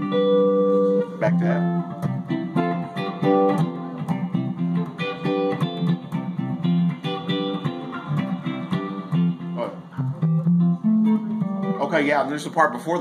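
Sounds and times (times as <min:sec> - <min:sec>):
guitar picked chords: 0:00.0 - 0:13.0.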